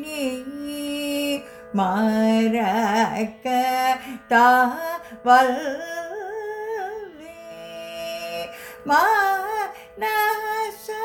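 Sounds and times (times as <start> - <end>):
woman singing ornamented notes: 0.0 - 11.0.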